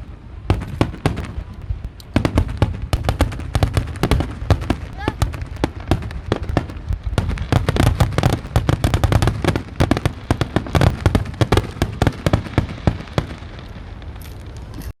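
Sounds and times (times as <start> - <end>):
fireworks cracks and booms: 0.0 - 14.9.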